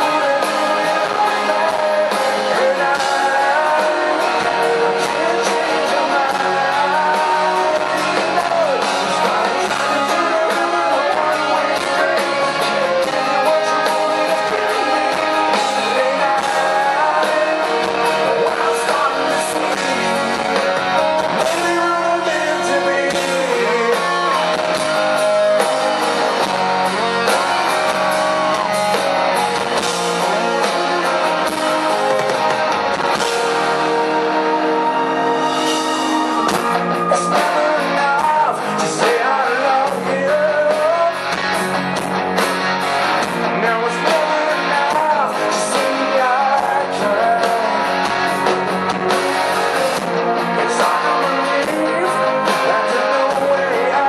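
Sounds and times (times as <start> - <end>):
man singing: 0.0 - 29.0, 36.4 - 41.6, 43.5 - 48.3, 49.7 - 54.0
drum kit: 0.0 - 54.0
electric guitars: 0.0 - 54.0.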